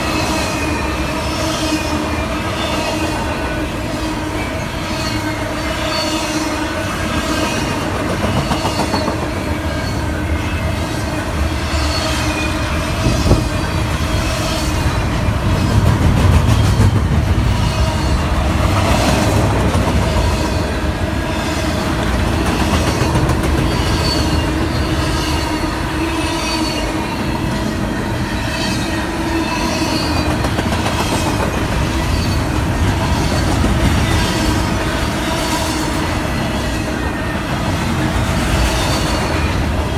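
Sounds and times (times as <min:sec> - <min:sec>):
freight train cars rumbling: 0:00.0 - 0:39.9.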